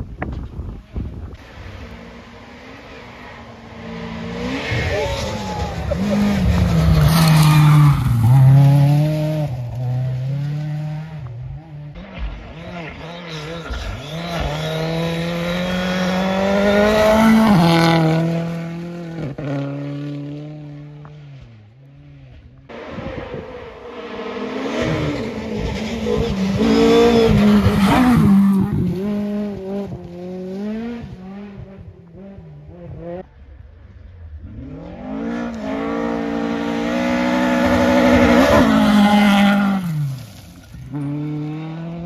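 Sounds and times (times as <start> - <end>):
rally car engine speeding past: 1.4 - 21.5, 22.1 - 42.0.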